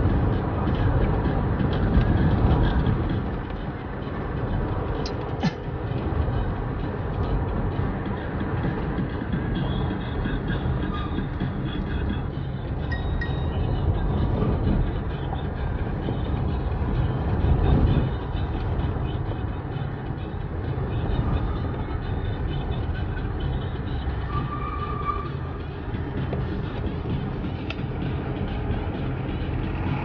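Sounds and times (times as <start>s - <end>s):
road vehicle engine and tyre noise: 0.0s - 30.0s.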